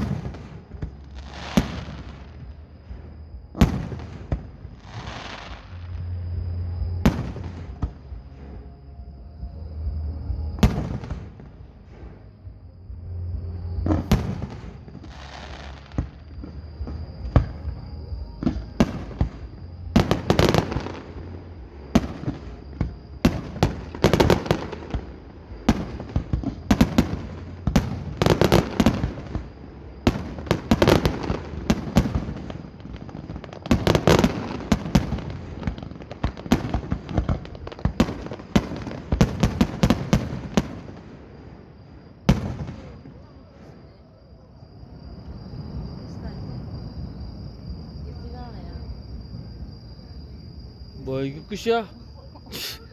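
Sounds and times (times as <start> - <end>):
fireworks bangs and booms: 0.0 - 8.7, 9.5 - 52.6
fireworks crackling: 0.0 - 8.7, 9.5 - 43.9, 51.0 - 52.9.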